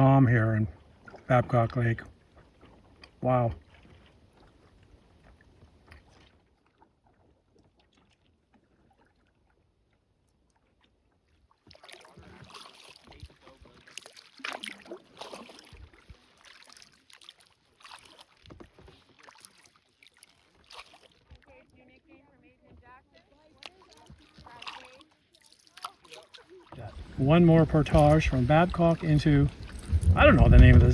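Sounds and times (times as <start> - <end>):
kayak paddle splashing water: 0.0 - 30.9
water dripping off paddle: 0.8 - 21.5, 23.5 - 30.9.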